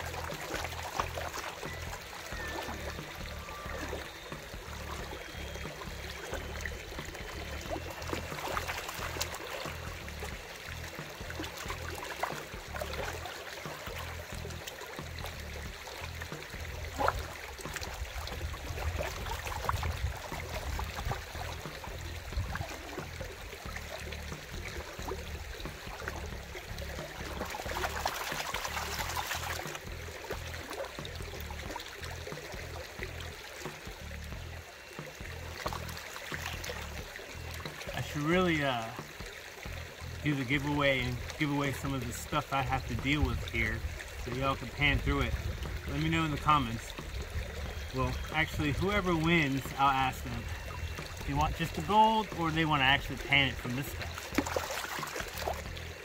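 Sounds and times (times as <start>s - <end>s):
water sloshing and trickling: 0.0s - 56.0s.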